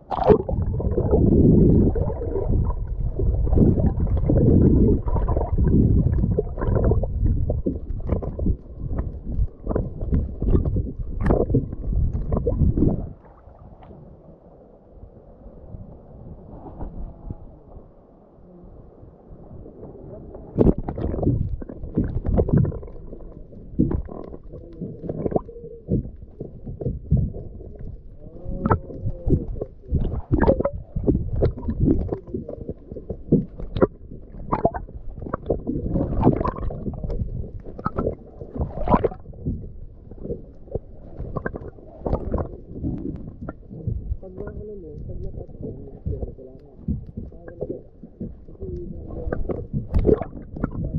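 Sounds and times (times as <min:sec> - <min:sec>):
muffled underwater gurgling: 0:00.0 - 0:50.9.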